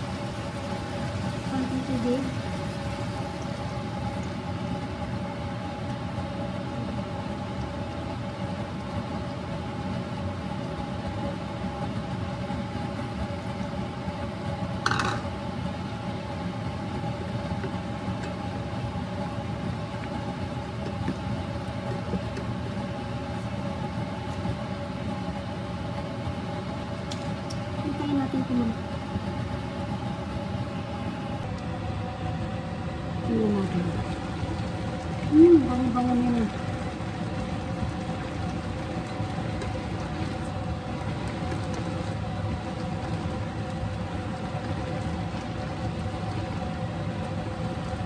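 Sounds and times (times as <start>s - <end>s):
kitchen appliance humming: 0.0s - 48.0s.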